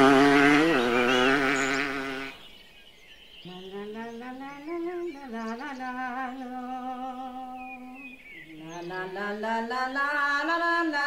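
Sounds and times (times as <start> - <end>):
person humming a melody: 0.0 - 2.3, 3.5 - 11.0.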